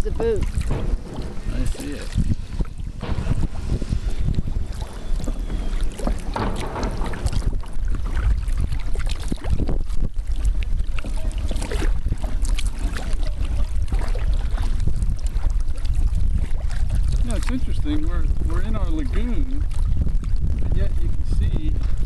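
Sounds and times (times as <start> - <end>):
paddle strokes splashing water: 0.0 - 20.5
wind buffeting microphone: 0.0 - 22.0.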